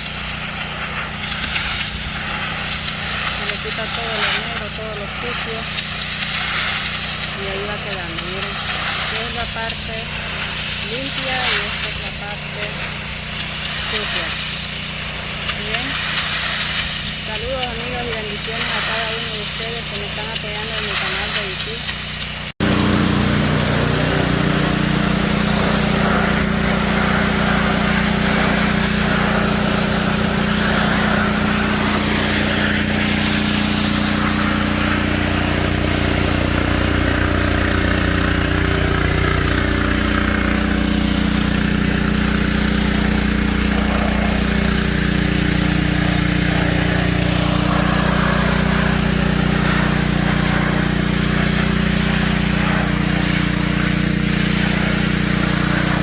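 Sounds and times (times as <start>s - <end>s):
pressure washer engine drone: 0.0s - 56.0s
water spray hissing: 0.0s - 56.0s.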